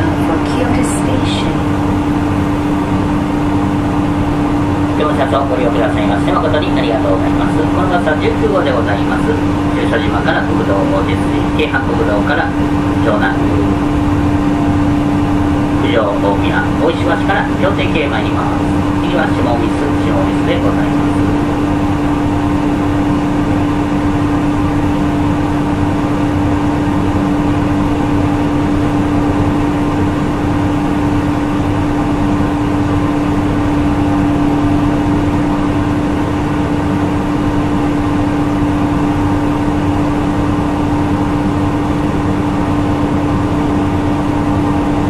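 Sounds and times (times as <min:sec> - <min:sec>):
bus engine running: 0:00.0 - 0:45.0
road noise: 0:00.0 - 0:45.0.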